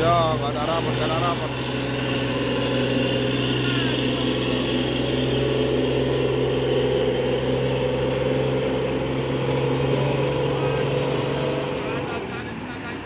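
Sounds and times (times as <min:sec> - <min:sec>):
truck diesel engine straining: 0:00.0 - 0:13.0.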